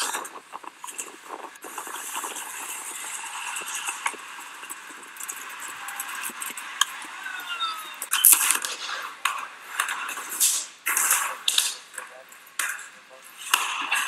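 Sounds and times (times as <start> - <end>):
skateboard wheels rolling: 0.0 - 14.0.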